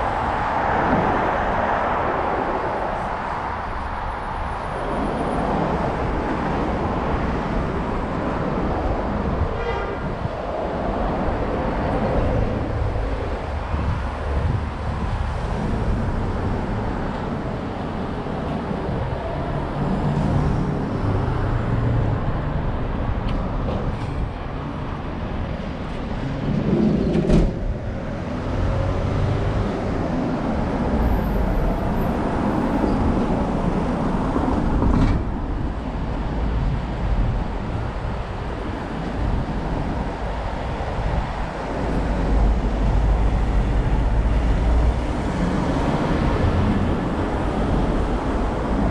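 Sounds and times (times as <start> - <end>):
vehicles rumbling past: 0.0 - 48.9.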